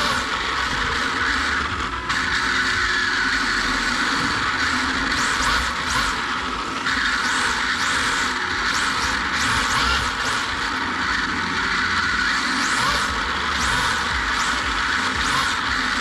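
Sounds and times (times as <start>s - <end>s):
rc car electric motor whine: 0.0s - 16.0s.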